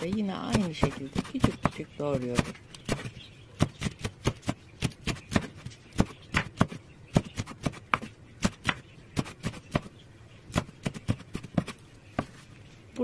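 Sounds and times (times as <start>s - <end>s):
knife chopping on wooden board: 0.0s - 9.9s, 10.5s - 12.3s.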